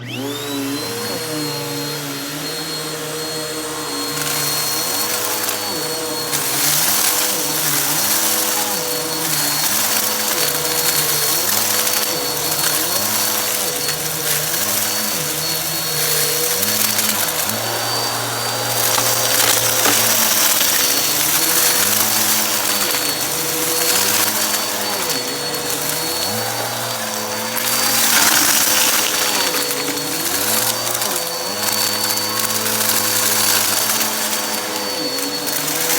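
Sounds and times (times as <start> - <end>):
vacuum cleaner on carpet: 0.0 - 35.9.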